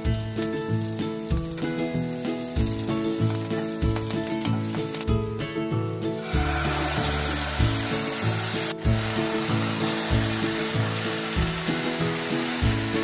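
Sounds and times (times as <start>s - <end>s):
food sizzling in hot oil: 0.0s - 5.2s, 6.2s - 13.0s
light background music with beat: 0.0s - 13.0s.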